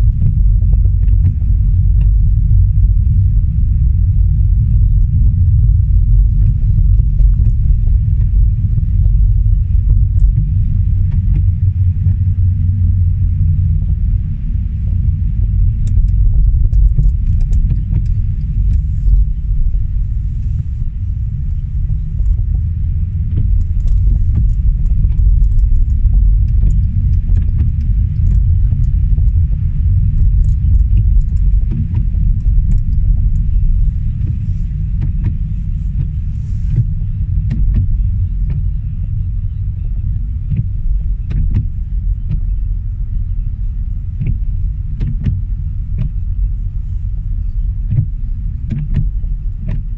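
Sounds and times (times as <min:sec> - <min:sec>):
light ticks: 0:00.0 - 0:43.0, 0:43.6 - 0:49.9
car engine and tyre rumble: 0:00.0 - 0:49.9.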